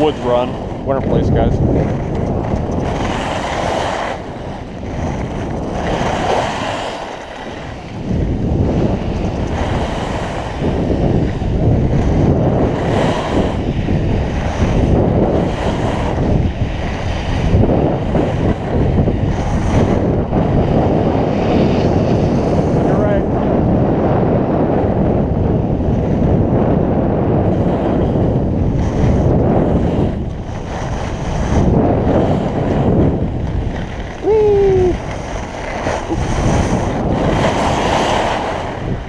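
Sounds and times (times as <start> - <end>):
skis scraping on hard snow: 0.0 - 22.9, 27.4 - 39.0
wind rushing over microphone: 0.0 - 39.0.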